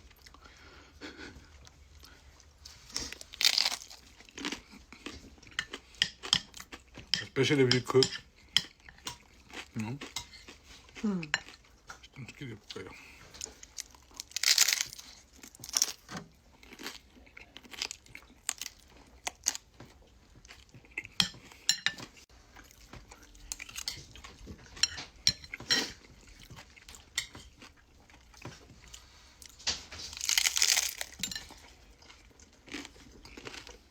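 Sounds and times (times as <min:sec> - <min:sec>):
chewing and crunching: 0:00.0 - 0:33.9.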